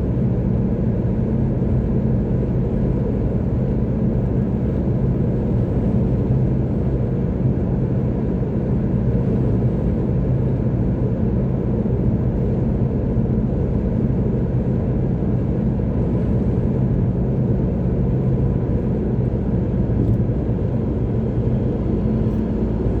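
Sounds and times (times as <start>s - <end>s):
car engine hum: 0.0s - 23.0s.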